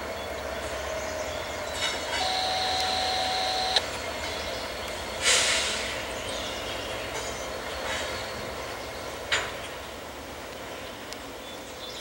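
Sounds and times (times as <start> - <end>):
train rumbling past: 0.0 - 11.8.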